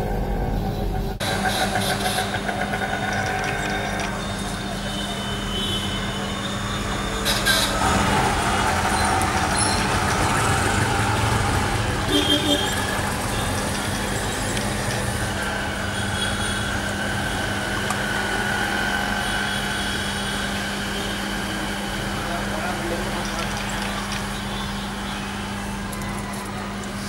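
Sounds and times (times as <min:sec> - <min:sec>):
passing traffic: 0:00.0 - 0:27.0.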